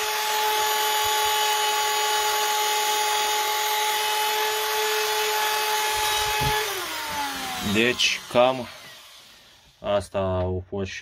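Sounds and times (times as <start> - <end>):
rotary tool whining: 0.0 - 9.9.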